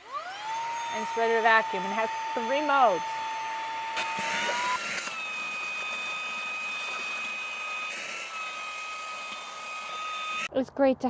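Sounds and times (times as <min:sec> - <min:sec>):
handheld vacuum motor whine: 0:00.0 - 0:10.5.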